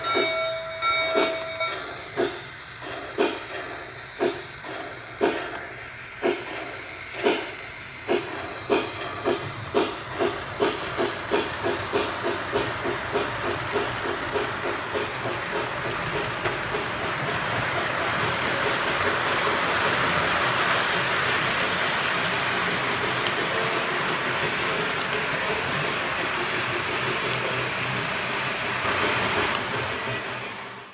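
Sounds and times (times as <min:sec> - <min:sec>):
model steam train chuffing: 0:01.8 - 0:30.9.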